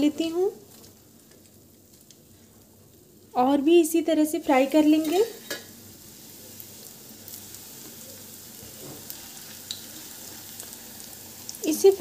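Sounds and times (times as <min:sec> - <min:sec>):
bread sizzling in hot oil: 0:00.0 - 0:12.0.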